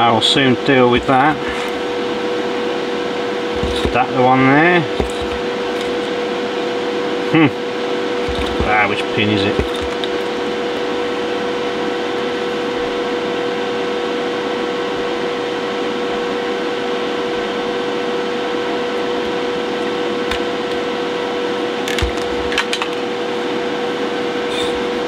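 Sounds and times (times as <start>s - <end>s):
equipment hum with hiss: 0.0s - 25.0s.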